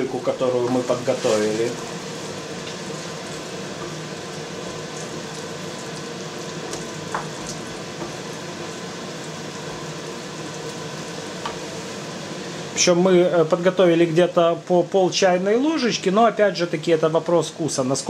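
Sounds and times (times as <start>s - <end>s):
sauce frying in a pan: 0.0s - 18.0s.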